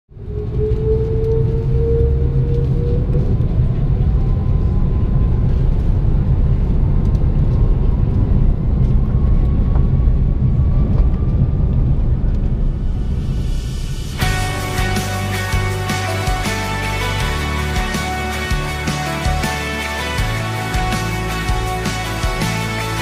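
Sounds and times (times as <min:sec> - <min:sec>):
faint rising whine: 0:00.1 - 0:23.0
moving vehicle rumble: 0:00.1 - 0:23.0.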